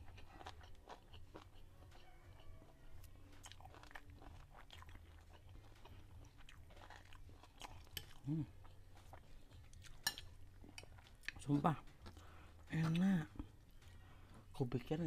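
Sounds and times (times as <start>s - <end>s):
faint chewing and mouth sounds: 0.0s - 15.0s.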